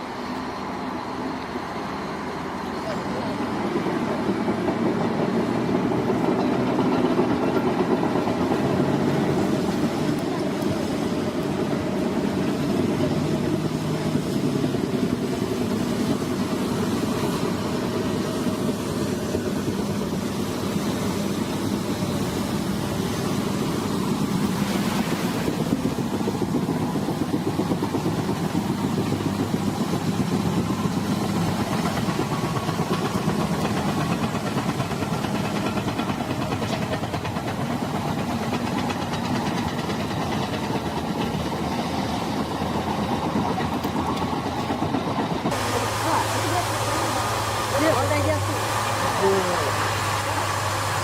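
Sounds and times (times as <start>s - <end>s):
heavy machine engine droning: 0.0s - 51.0s.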